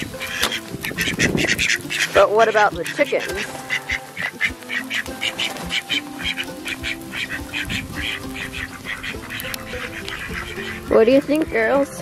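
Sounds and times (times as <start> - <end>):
ducks quacking: 0.0 - 12.0
quiet background music: 0.0 - 12.0.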